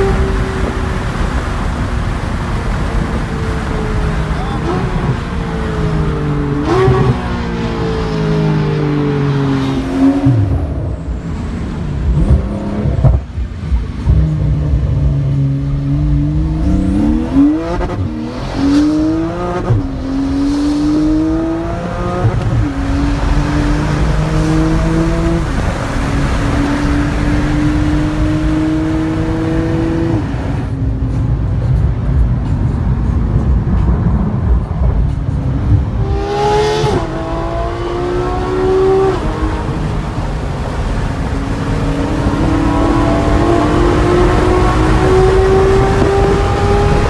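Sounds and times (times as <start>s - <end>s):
car engine revving: 0.0s - 31.6s, 32.2s - 47.0s.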